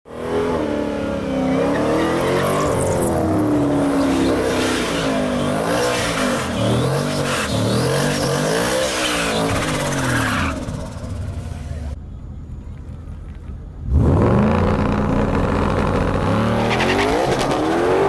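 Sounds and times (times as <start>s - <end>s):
engines revving loudly: 0.1s - 12.0s, 13.9s - 18.0s.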